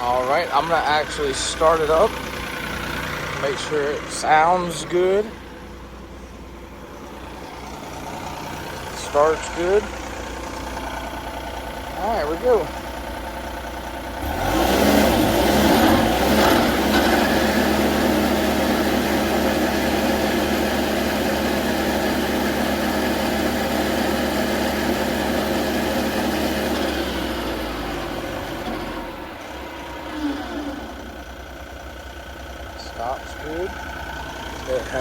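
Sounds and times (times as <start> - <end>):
engine winding down: 0.0 - 35.0
stump grinder engine running: 0.0 - 35.0.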